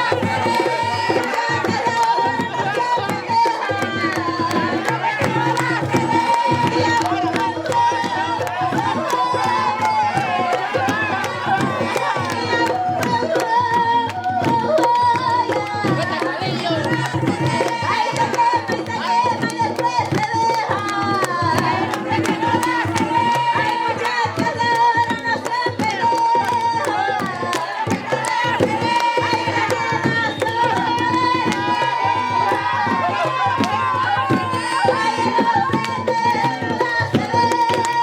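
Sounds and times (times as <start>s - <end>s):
hand drums beating fast rhythm: 0.0s - 38.0s
person singing: 0.0s - 38.0s.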